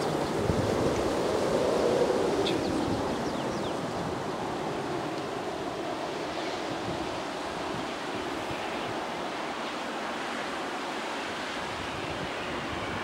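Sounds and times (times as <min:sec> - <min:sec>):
wind buffeting microphone: 0:00.0 - 0:09.4, 0:11.6 - 0:13.0
distant jet engines roaring: 0:00.0 - 0:13.0.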